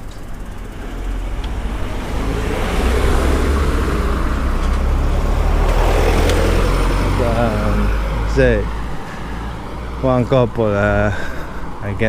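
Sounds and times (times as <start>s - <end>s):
road traffic: 0.0s - 12.0s
vehicle engine and tyre noise: 0.0s - 12.0s.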